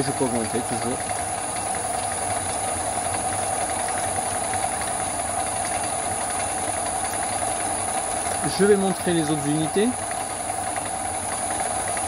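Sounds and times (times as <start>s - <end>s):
lathe whirring: 0.0s - 12.0s.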